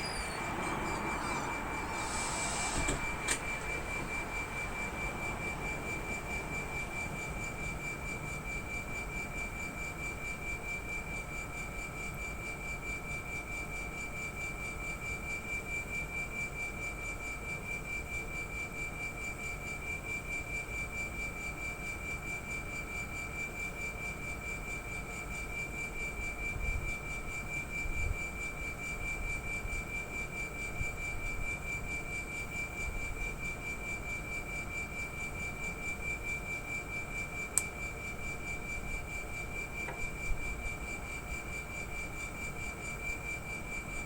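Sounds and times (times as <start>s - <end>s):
compressor high-pitched whine: 0.0s - 44.0s.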